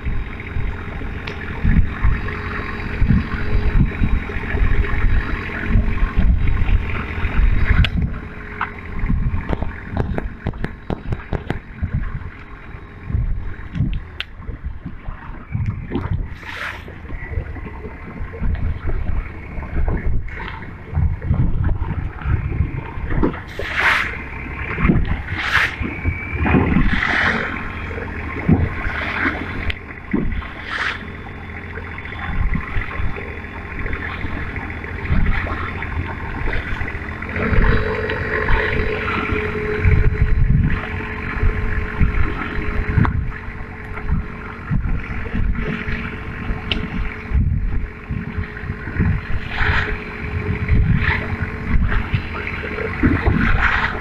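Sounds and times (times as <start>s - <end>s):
faint boat engine tones: 0.0s - 54.0s
rumble of water: 0.0s - 54.0s
sharp knocks and splashes: 0.0s - 54.0s
wind buffeting microphone: 0.0s - 54.0s.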